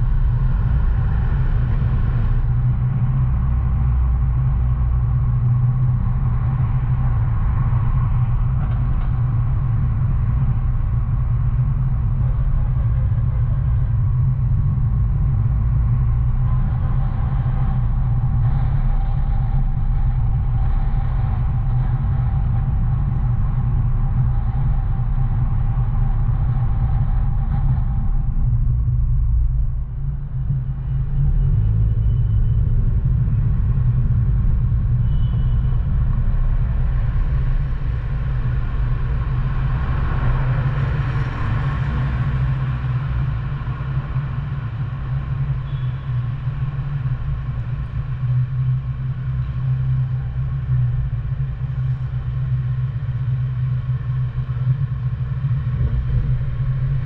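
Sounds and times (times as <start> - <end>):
car road rumble: 0.0 - 57.0.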